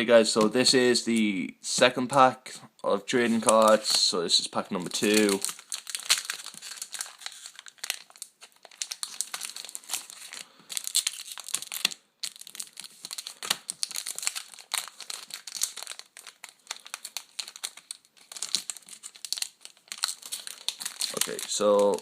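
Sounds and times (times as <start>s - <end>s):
card pack packaging crinkling: 3.1s - 22.0s.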